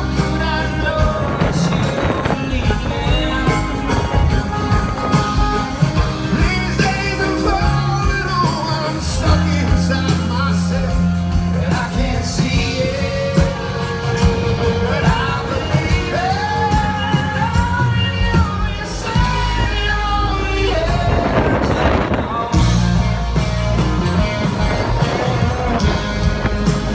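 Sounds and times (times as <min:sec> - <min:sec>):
drums: 0:00.0 - 0:26.9
live rock band playing: 0:00.0 - 0:26.9.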